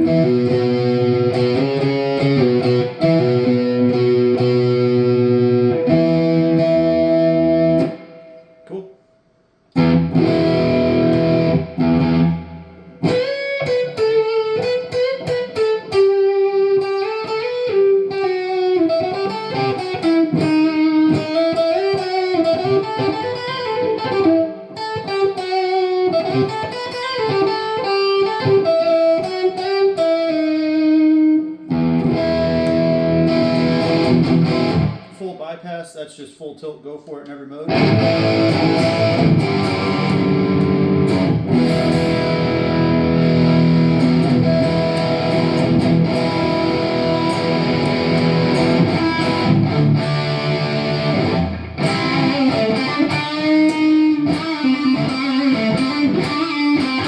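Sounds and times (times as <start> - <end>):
electric guitar chords: 0.0 - 8.8, 9.7 - 35.2, 37.7 - 57.0
electric guitar lead lines: 0.0 - 8.8, 9.7 - 35.2, 37.7 - 57.0.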